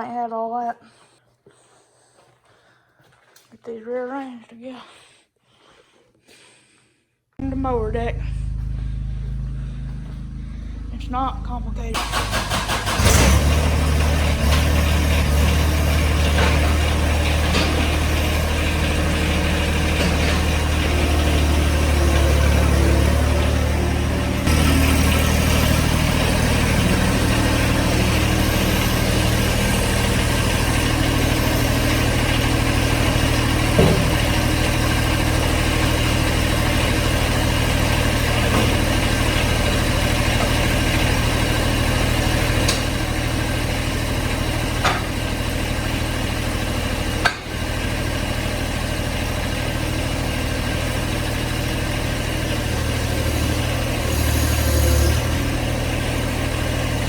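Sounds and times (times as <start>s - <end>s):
tractor diesel engine idling: 7.4s - 57.0s.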